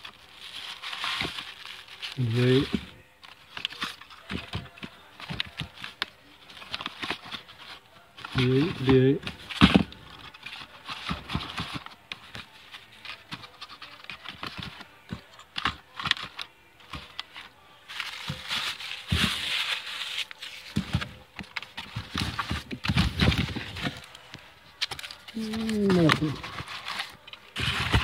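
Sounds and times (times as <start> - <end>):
cardboard rustling and scraping: 0.0 - 28.0.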